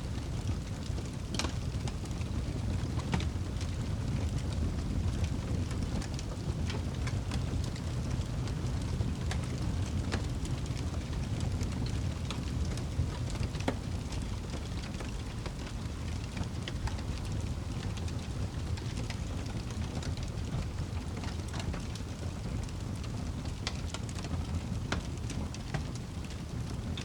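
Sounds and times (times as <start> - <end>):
fire crackles and pops: 0.0 - 27.0
fire rumbling in fireplace: 0.0 - 27.0.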